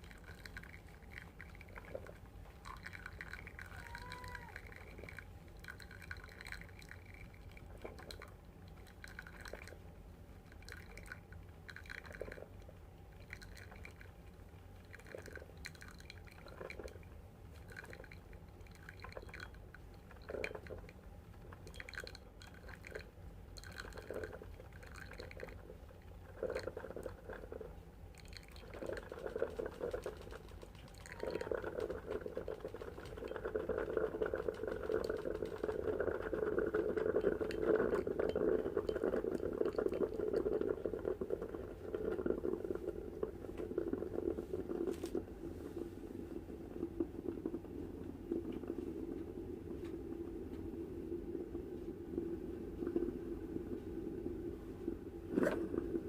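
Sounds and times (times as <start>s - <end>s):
coffee maker gurgling and bubbling: 0.0s - 56.0s.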